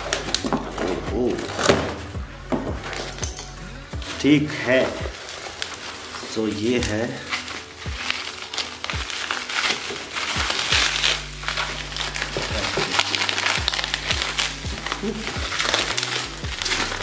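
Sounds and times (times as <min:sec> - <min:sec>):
background music with low beat: 0:00.0 - 0:17.0
paper and bubble wrap crinkling: 0:00.0 - 0:17.0.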